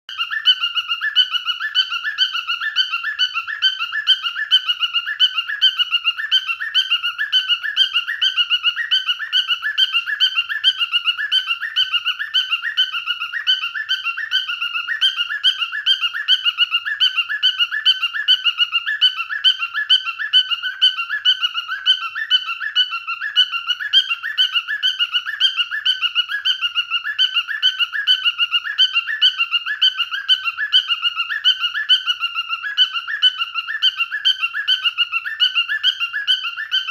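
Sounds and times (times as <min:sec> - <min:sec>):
cockatiel screeching: 0:00.1 - 0:36.9.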